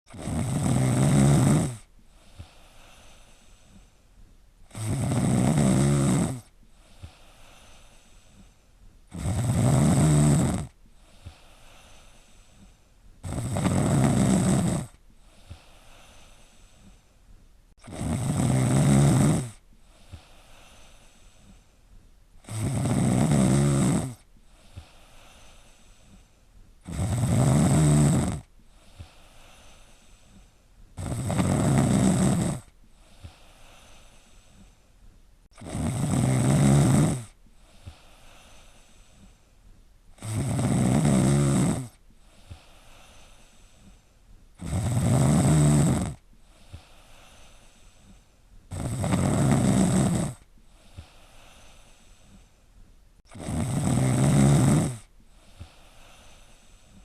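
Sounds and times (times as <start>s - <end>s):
person snoring: 0.1s - 4.0s, 4.7s - 17.0s, 17.8s - 21.7s, 22.4s - 34.8s, 35.6s - 39.4s, 40.2s - 44.0s, 44.6s - 52.5s, 53.3s - 57.0s
faint breaths: 0.1s - 57.0s.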